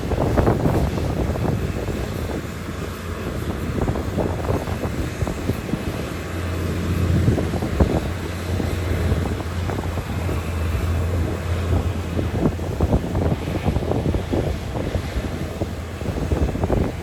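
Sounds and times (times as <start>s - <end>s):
heavy machinery engine drone: 0.0s - 17.0s
wind on microphone: 0.0s - 17.0s.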